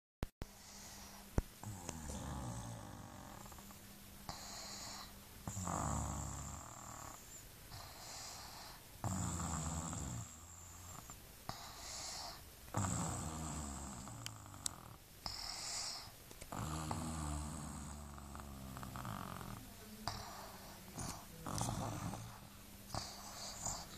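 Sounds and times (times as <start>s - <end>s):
soft airy breathing: 0.4s - 5.7s, 6.6s - 9.1s, 10.2s - 23.9s
baby snoring: 0.6s - 23.9s.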